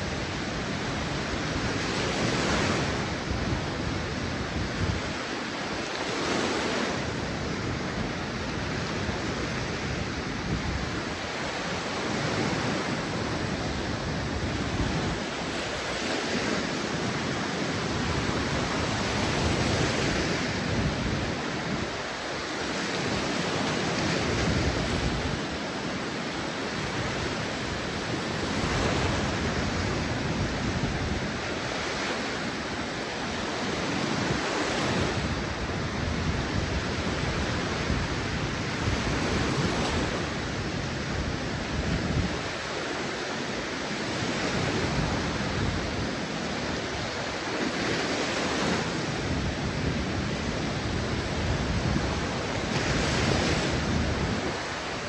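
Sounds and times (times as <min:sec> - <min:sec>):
waves washing up a beach: 0:00.0 - 0:55.0.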